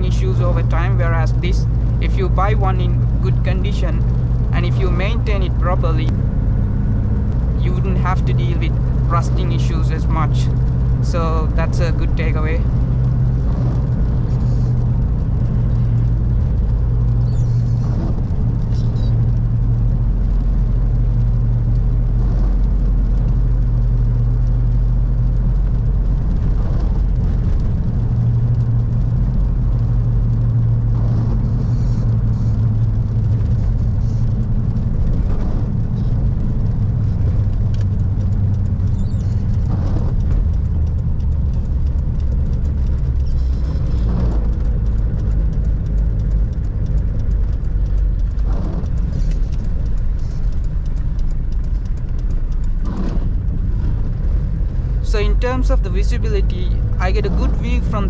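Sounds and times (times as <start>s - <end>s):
diesel engine droning: 0.0s - 58.0s
road noise: 0.0s - 58.0s.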